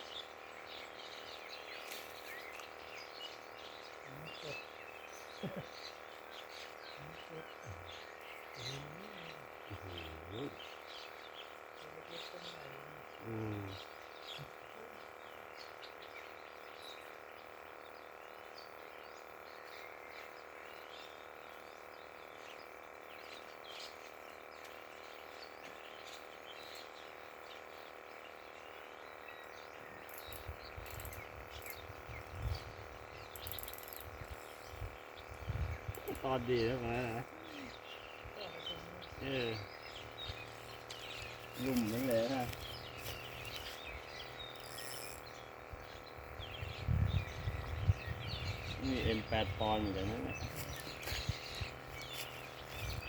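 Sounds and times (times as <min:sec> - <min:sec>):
birds chirping: 0:00.0 - 0:53.0
steady multi-tone hum: 0:00.0 - 0:53.0.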